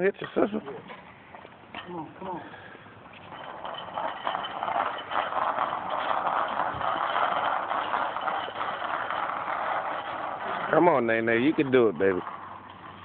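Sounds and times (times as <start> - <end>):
hard wheels rattling on asphalt: 0.9 - 13.0.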